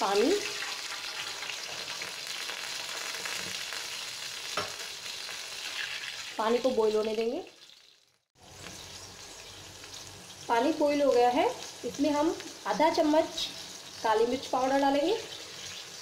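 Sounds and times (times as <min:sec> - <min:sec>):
water sizzling in hot oil: 0:00.0 - 0:16.0.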